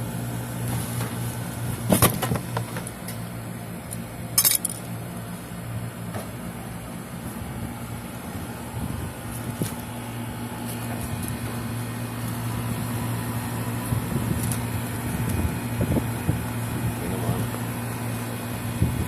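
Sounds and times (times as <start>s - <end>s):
compressor hum with fan noise: 0.0s - 19.0s.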